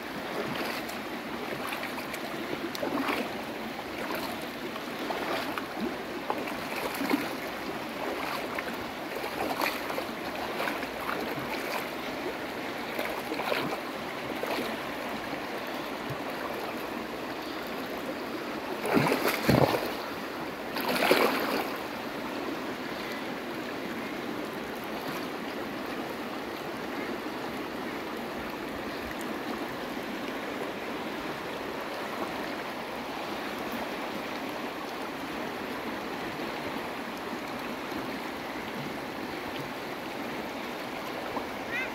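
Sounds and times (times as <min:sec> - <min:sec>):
river rushing over stones: 0:00.0 - 0:41.9.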